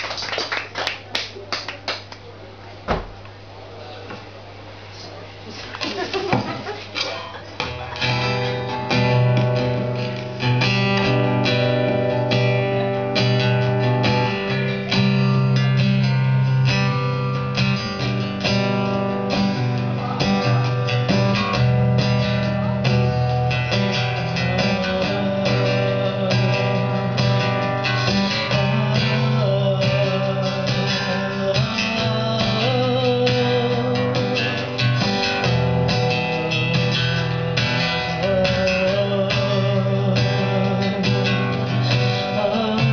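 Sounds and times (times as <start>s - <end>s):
acoustic guitar strumming: 6.3s - 42.9s.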